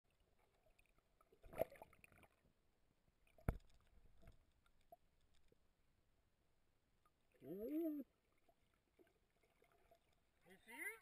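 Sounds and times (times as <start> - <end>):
water crackling and gurgling: 0.1 - 5.8, 6.9 - 11.0.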